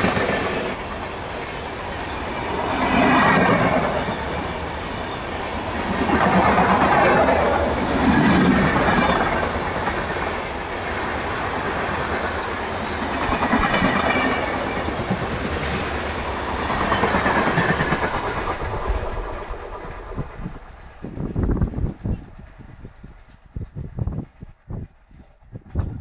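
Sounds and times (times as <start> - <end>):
train wheels clattering over rail joints: 0.0 - 26.0.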